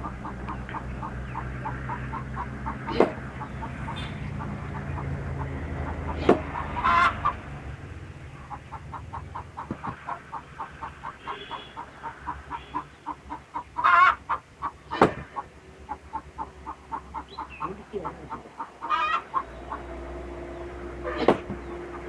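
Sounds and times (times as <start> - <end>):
loud bird calls: 0.0 - 22.0.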